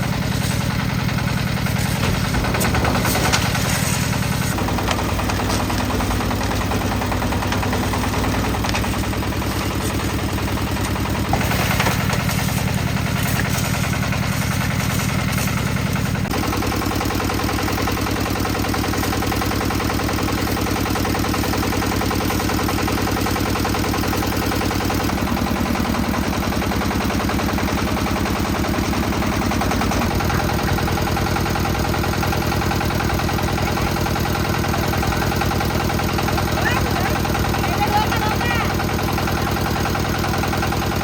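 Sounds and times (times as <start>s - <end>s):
clatter: 0.0s - 41.0s
concrete mixer engine running: 0.0s - 41.0s.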